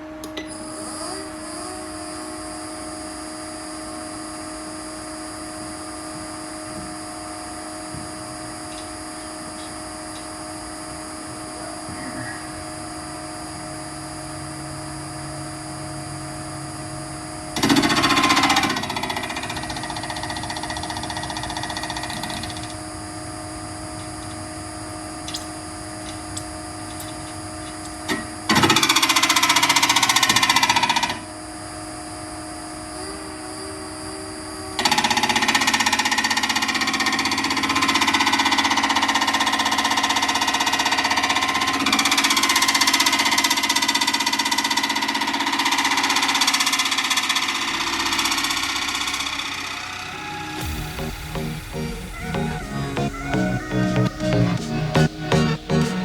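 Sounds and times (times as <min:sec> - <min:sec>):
drill press running: 0:00.0 - 0:56.0.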